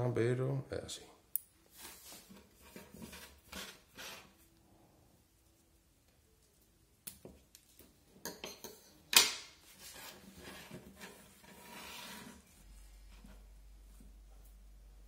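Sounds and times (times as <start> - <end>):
rustling and handling noise: 1.5 - 4.6, 5.2 - 14.9.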